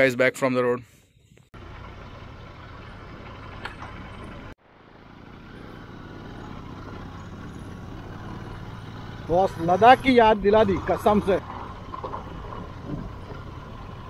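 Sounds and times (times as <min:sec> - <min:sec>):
road and wind noise: 0:01.2 - 0:14.0
motorcycle engine running: 0:01.6 - 0:14.0.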